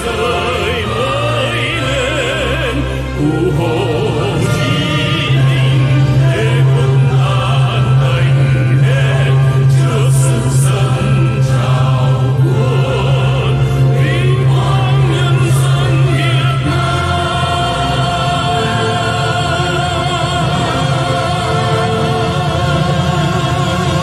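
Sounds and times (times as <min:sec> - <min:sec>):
man singing: 0:00.0 - 0:21.1
choir singing: 0:00.0 - 0:24.0
orchestra playing: 0:00.0 - 0:24.0.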